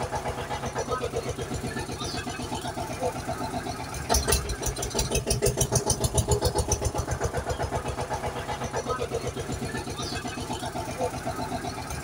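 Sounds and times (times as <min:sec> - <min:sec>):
rapid ticking clatter: 0:00.0 - 0:12.0
tractor engine chugging: 0:00.0 - 0:12.0.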